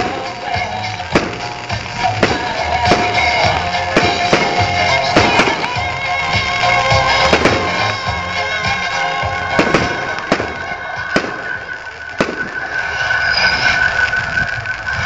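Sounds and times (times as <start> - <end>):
fireworks bangs: 0.0 - 15.0
music playing: 0.0 - 15.0.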